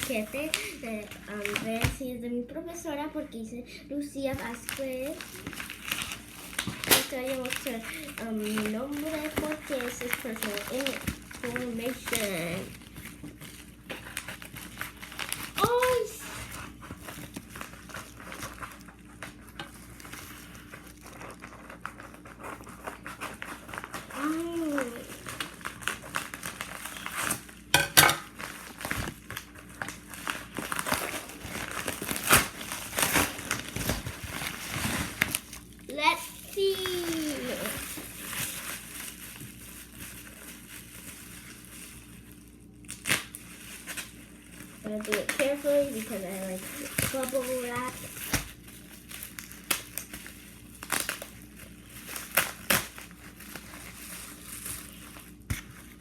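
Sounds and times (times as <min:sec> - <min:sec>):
packaging crinkling and rustling: 0:00.0 - 0:02.1, 0:04.2 - 0:56.0.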